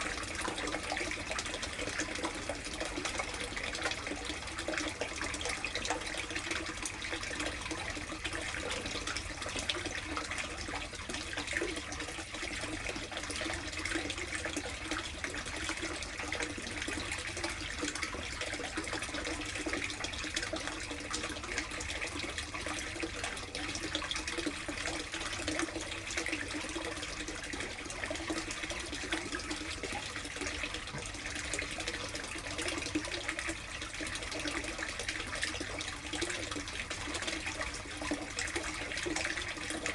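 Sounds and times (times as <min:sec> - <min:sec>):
running and splashing water: 0:00.0 - 0:39.9.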